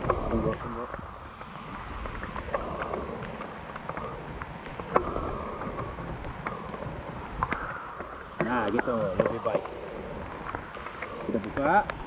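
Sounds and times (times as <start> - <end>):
rain on foliage: 0.0 - 12.0.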